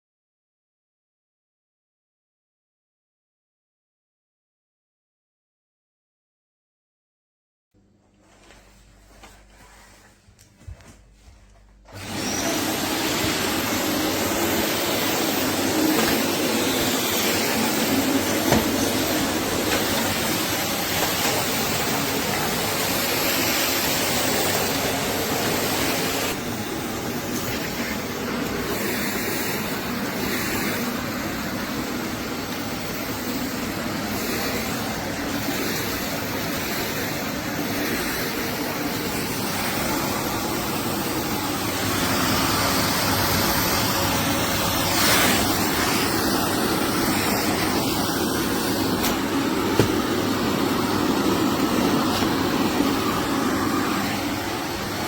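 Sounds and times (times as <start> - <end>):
vacuum cleaner running: 8.2 - 55.0.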